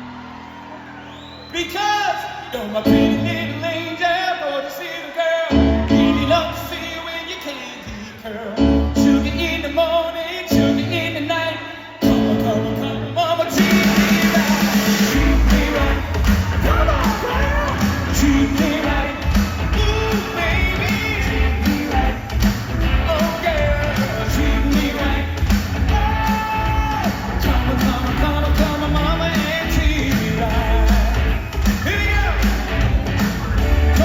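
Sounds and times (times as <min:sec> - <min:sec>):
live pop band playing: 0:01.6 - 0:34.0.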